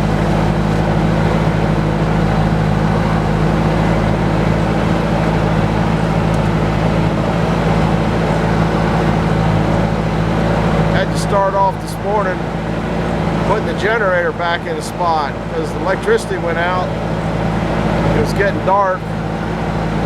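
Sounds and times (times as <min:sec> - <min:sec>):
loader engine running: 0:00.0 - 0:20.0.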